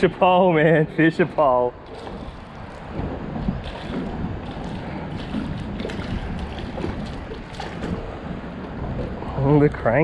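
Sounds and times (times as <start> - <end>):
water lapping against boat hull: 0.0 - 10.0
wind buffeting microphone: 0.0 - 10.0.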